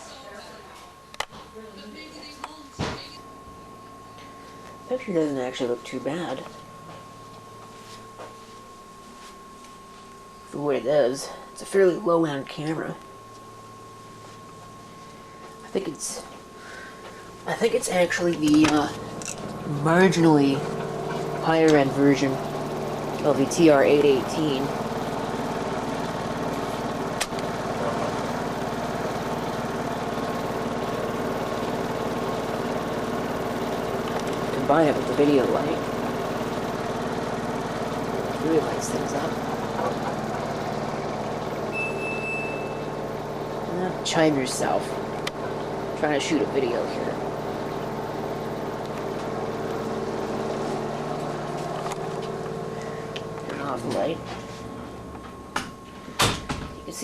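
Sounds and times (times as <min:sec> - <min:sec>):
small motor humming: 0:09.6 - 0:57.0.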